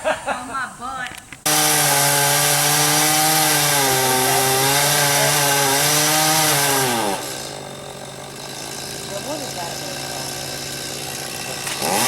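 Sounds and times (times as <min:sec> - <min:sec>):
chainsaw running at high revs: 0:01.5 - 0:12.0.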